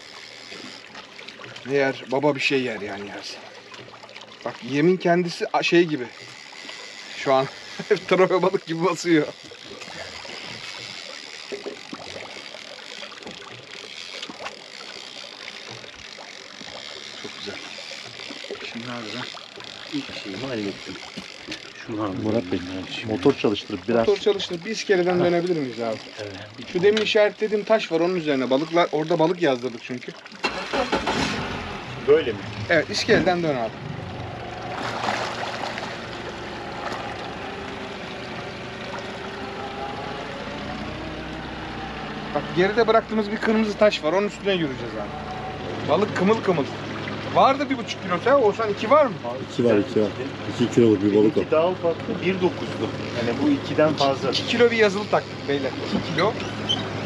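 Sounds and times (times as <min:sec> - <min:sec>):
boat engine running: 0:00.0 - 0:57.0
water lapping and trickling: 0:00.0 - 0:57.0.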